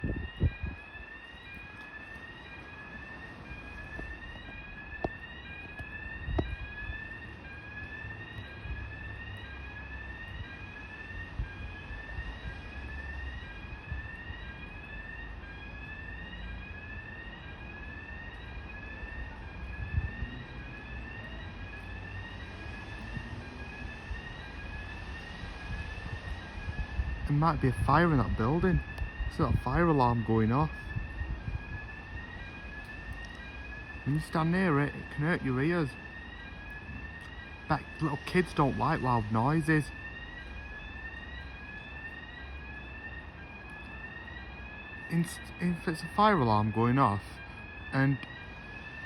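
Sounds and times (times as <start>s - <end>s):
fire alarm whooping tone: 0.0s - 49.0s.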